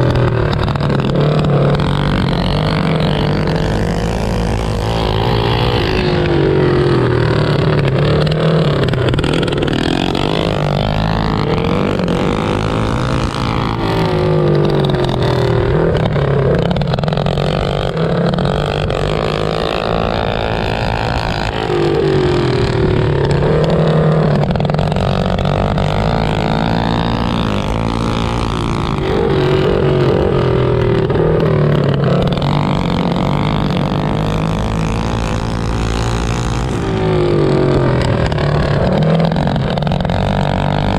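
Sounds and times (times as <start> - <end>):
mini bike engines revving: 0.0 - 40.9.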